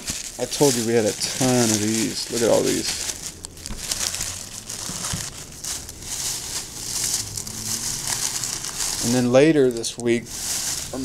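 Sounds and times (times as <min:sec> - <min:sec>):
wrappers crinkling and rustling: 0:00.0 - 0:11.0.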